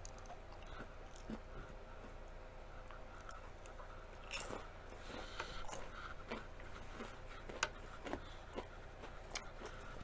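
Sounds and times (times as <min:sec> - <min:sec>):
biting and chewing crunchy food: 0:00.0 - 0:10.0.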